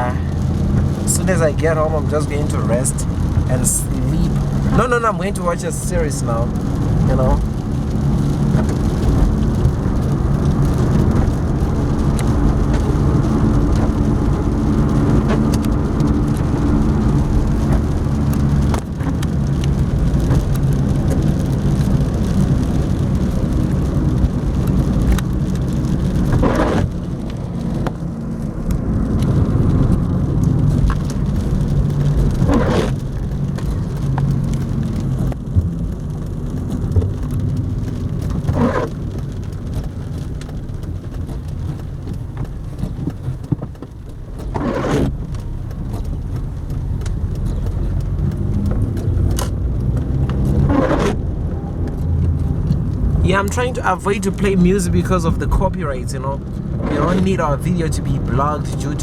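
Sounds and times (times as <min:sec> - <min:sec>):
car engine and road hum: 0:00.0 - 0:59.0
rain on car: 0:00.0 - 0:59.0.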